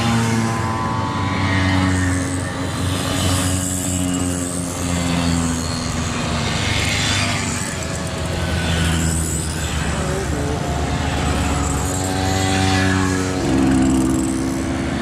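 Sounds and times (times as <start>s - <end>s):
two-stroke mopeds riding past: 0.0s - 15.0s.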